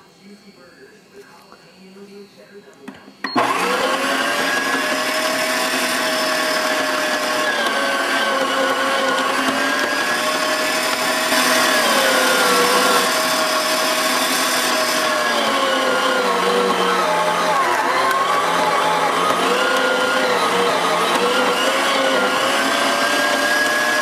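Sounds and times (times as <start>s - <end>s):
meat grinder motor whining: 3.3s - 24.0s.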